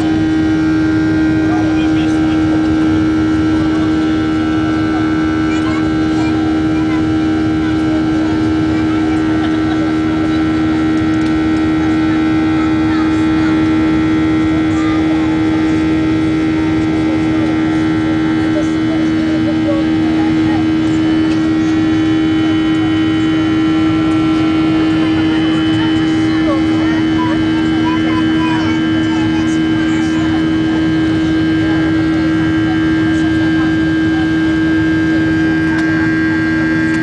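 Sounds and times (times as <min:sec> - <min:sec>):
jet engines droning: 0:00.0 - 0:37.0.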